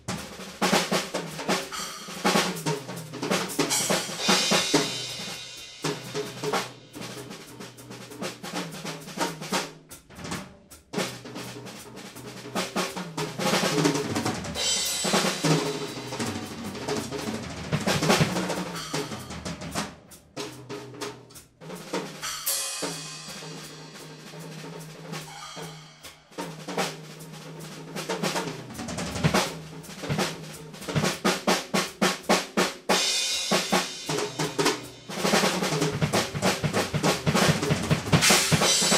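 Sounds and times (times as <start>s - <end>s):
drum kit solo: 0.0s - 38.9s.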